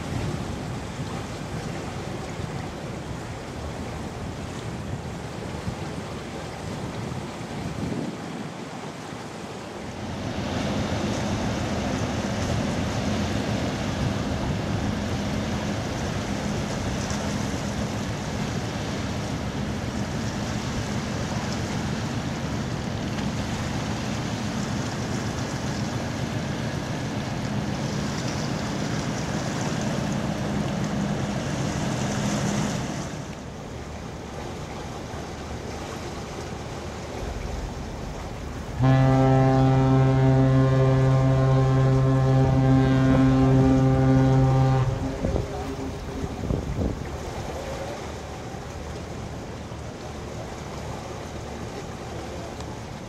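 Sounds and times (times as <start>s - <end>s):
boat engine drone: 0.0s - 7.6s, 8.8s - 53.0s
bow wave rushing: 10.0s - 52.5s.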